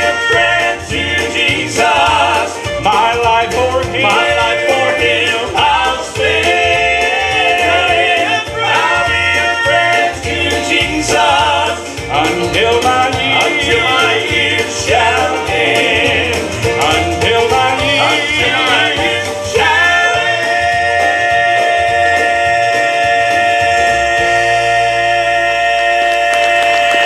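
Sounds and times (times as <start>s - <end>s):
instrumental accompaniment: 0.0s - 27.0s
male vocal group singing in harmony: 0.0s - 27.0s.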